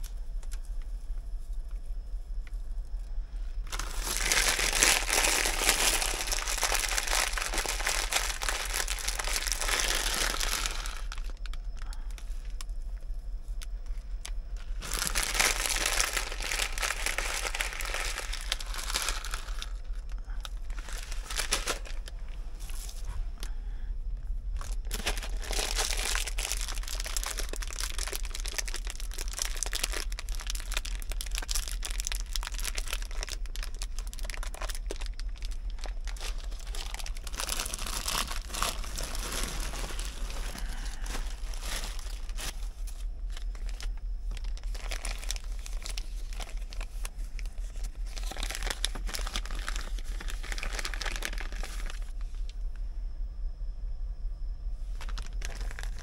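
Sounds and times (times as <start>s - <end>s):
steady low hum: 0.0s - 56.0s
plastic packaging crinkling: 3.6s - 12.7s, 13.6s - 23.5s, 24.5s - 52.6s, 54.9s - 56.0s.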